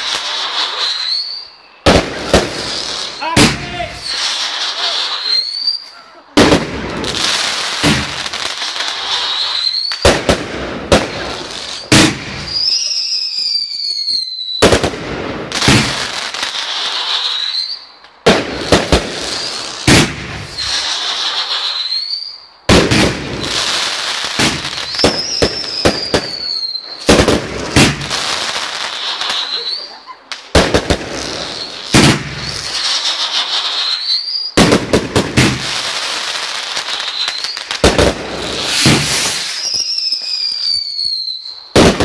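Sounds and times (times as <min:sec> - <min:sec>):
fireworks bangs: 0:00.0 - 0:42.0
fireworks crackling: 0:00.0 - 0:42.0
fireworks whistles: 0:00.0 - 0:42.0.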